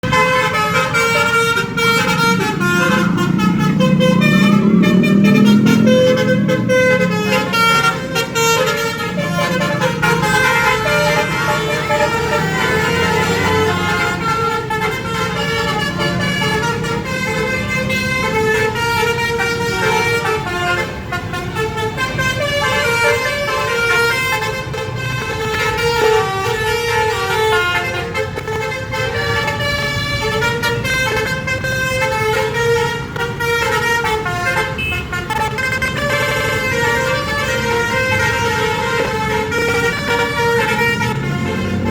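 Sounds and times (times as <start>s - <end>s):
bus engines running: 0.0s - 41.9s
musical bus air horns: 0.0s - 41.9s.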